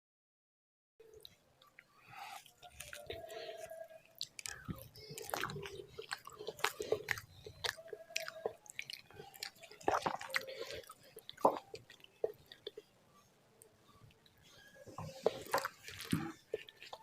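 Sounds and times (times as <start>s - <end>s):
close chewing with mouth smacks: 1.2s - 13.0s, 13.6s - 17.0s.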